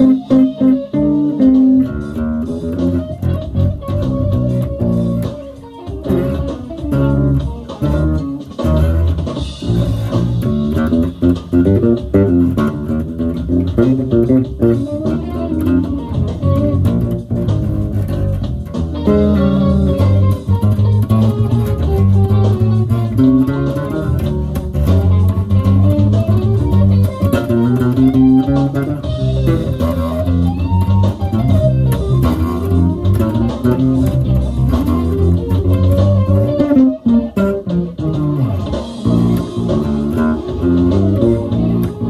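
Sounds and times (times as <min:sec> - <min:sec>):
electric bass funk line: 0:00.0 - 0:42.0.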